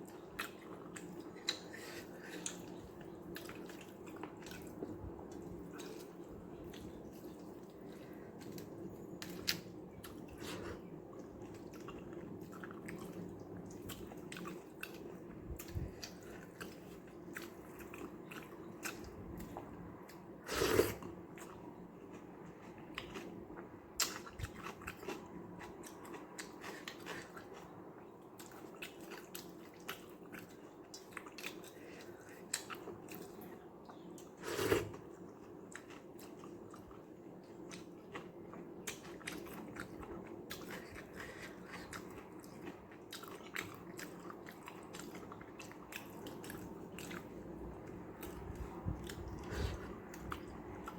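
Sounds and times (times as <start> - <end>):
person chewing wet food: 0.0 - 50.9.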